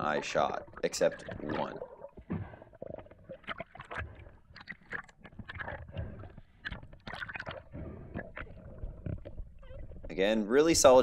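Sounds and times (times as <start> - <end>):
underwater clicks and crackles: 0.0 - 11.0
water gurgling: 0.0 - 11.0.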